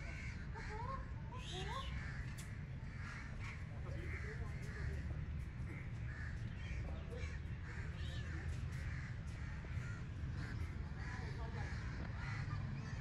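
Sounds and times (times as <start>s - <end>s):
birds harsh calls: 0.0s - 13.0s.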